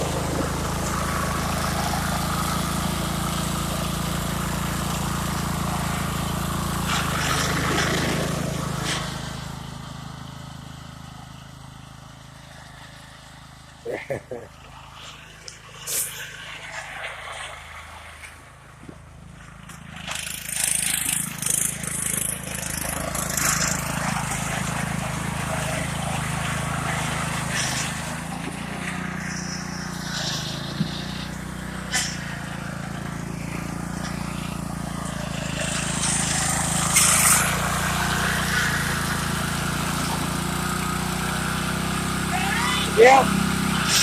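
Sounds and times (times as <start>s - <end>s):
lawn tractor engine running: 0.0s - 44.0s.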